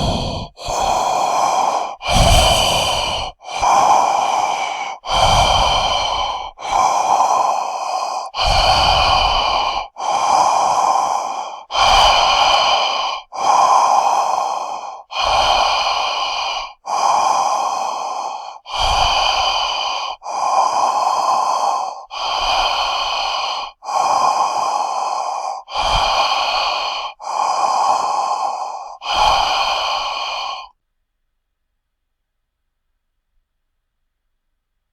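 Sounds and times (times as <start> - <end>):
heavy monster breathing: 0.0 - 30.7.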